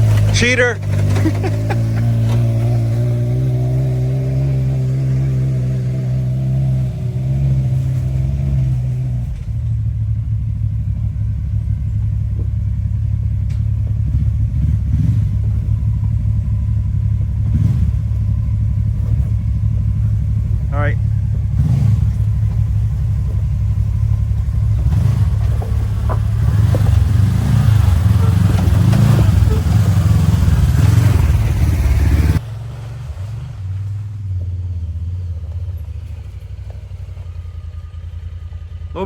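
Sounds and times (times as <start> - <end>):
utility vehicle engine running: 0.0 - 39.0.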